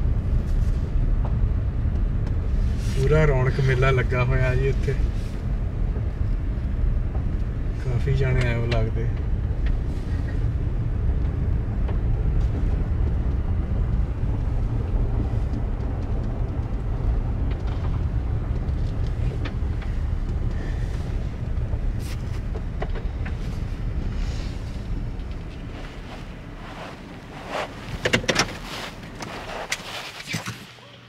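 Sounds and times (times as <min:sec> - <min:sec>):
car rolling rumble: 0:00.0 - 0:31.0.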